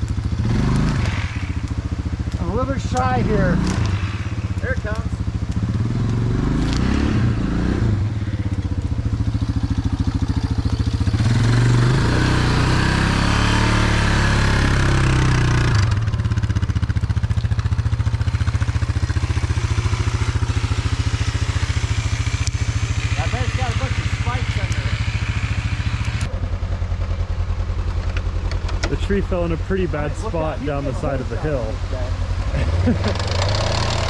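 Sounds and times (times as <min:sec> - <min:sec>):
vehicle engine running under load: 0:00.0 - 0:34.0.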